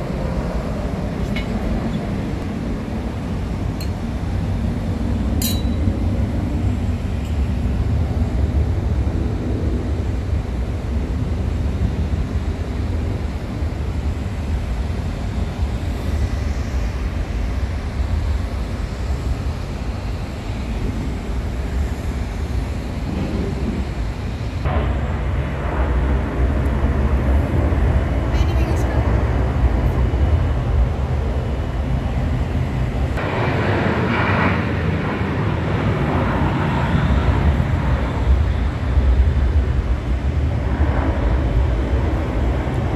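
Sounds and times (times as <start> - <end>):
jet engines rumbling on takeoff: 0.0 - 42.9.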